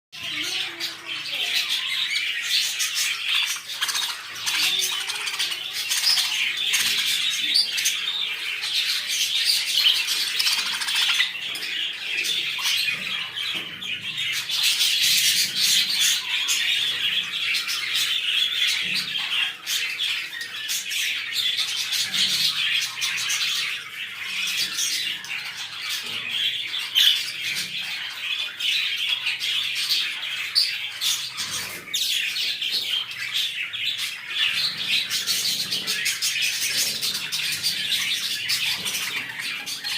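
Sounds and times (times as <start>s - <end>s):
parrots chattering and squawking: 0.2s - 39.9s.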